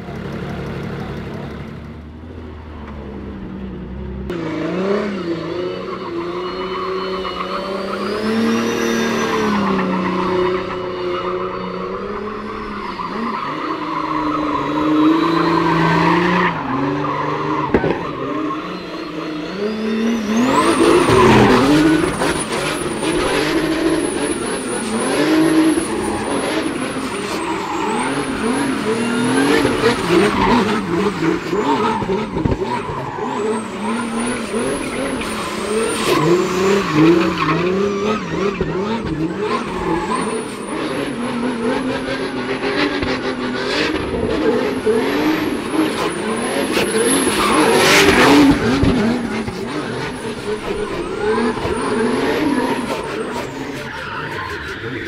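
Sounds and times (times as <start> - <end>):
car engine revving: 0.0 - 55.0
tyres squealing and skidding: 0.0 - 55.0.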